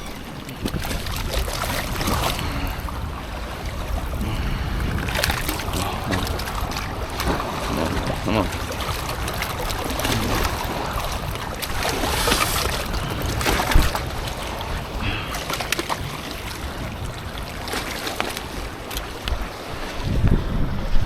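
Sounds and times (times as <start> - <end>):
water noise: 0.0 - 21.0
wind rumbling on microphone: 0.0 - 21.0.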